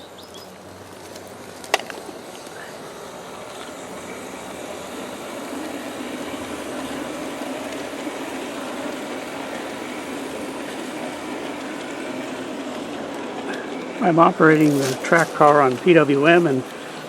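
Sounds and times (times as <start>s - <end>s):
model train wheels rumbling on rails: 0.0s - 17.0s.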